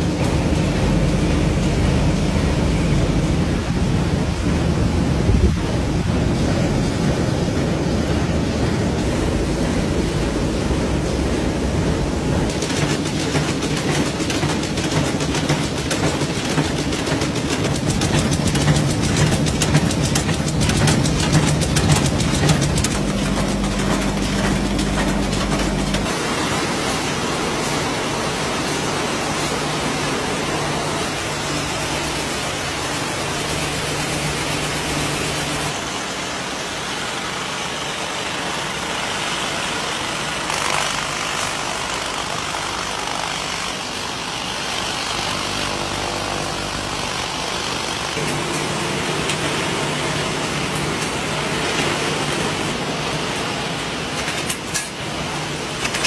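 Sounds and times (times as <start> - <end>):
machinery din with clattering: 0.0 - 35.9, 38.6 - 56.0.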